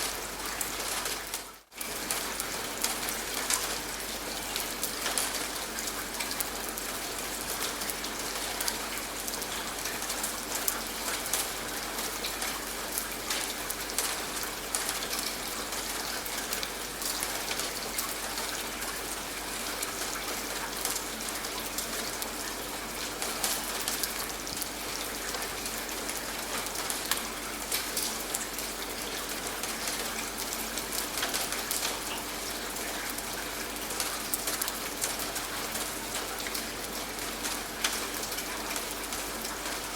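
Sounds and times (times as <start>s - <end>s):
raindrops ticking on a surface: 0.0s - 39.9s
steady rain falling: 0.0s - 39.9s.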